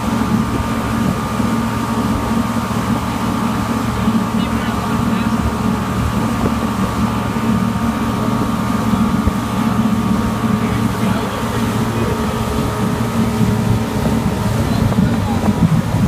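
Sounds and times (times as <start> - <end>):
churning wake water: 0.0 - 16.0
outboard motor running: 0.0 - 16.0.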